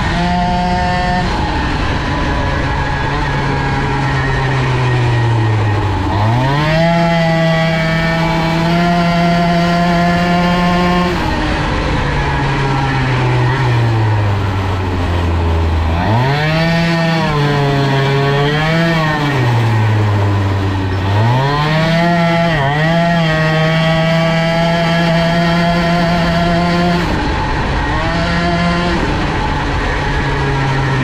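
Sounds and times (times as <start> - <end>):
moped engine revving: 0.0 - 31.0.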